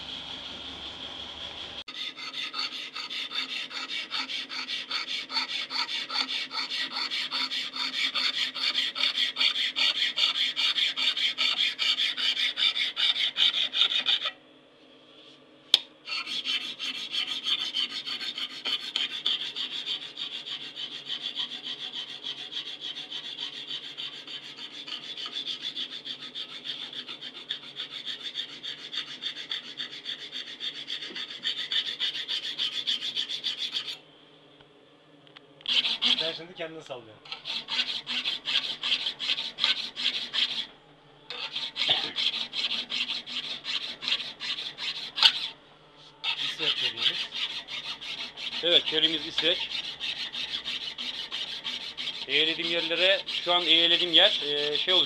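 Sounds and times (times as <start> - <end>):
file rasping on steel: 1.9 - 14.4, 16.1 - 34.0, 35.6 - 36.4, 37.2 - 40.7, 41.3 - 45.6, 46.2 - 55.0.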